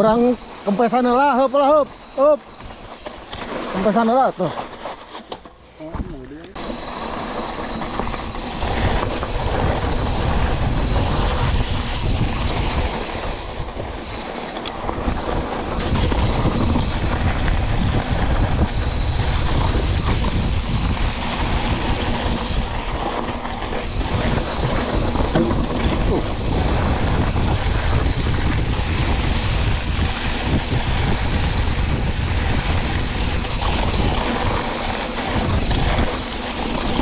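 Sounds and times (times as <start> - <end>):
mountain bike rumbling and rattling: 0.0 - 37.0.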